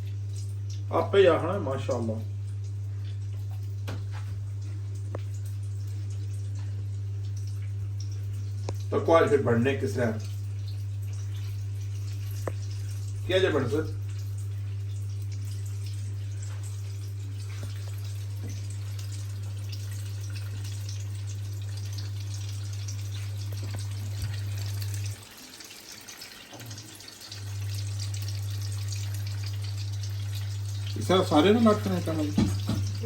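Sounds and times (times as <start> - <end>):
steady low hum: 0.0 - 25.2, 27.3 - 33.0
oil sizzling and crackling: 2.3 - 9.0, 10.2 - 33.0.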